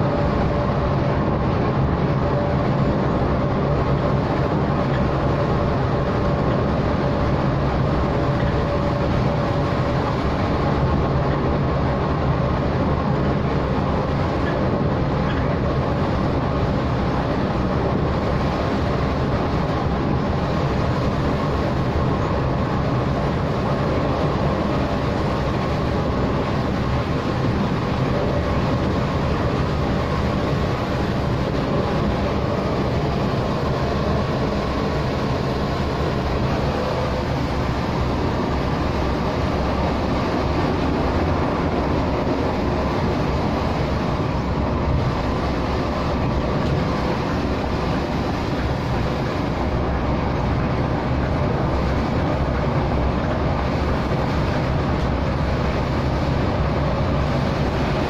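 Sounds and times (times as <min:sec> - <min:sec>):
bus engine hum: 0:00.0 - 0:58.0
road noise: 0:00.0 - 0:58.0.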